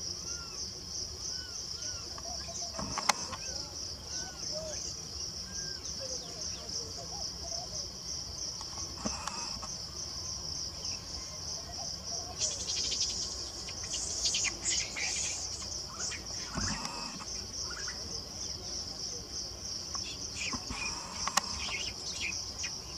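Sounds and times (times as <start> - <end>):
insect chorus pulsing: 0.0 - 22.9.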